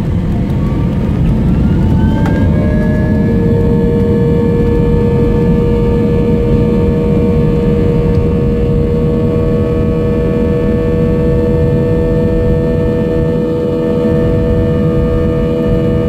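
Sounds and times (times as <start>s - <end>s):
jet engines roaring and whining: 0.0s - 16.0s.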